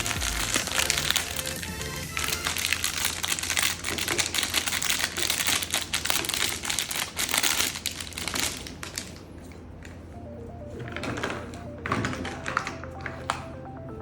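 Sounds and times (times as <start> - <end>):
plastic packaging crinkling: 0.0 - 10.1, 10.7 - 13.6.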